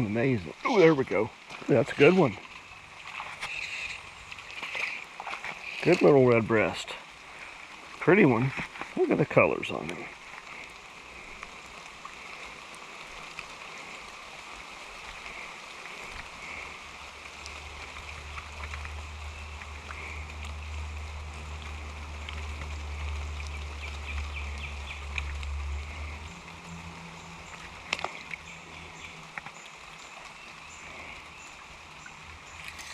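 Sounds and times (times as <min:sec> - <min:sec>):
creek water running: 0:00.0 - 0:32.9.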